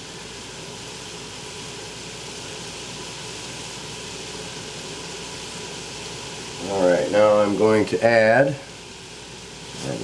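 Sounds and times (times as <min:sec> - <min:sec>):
vegetables and sausage frying: 0:00.0 - 0:10.0.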